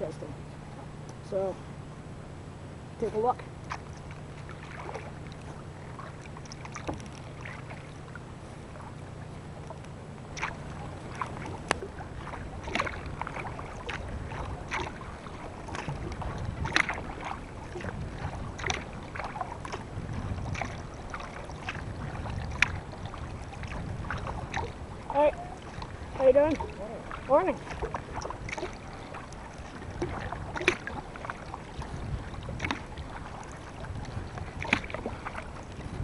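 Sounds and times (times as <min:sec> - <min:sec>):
wind rumble on microphone: 0:02.9 - 0:36.0
paddle splashing in water: 0:03.1 - 0:36.0.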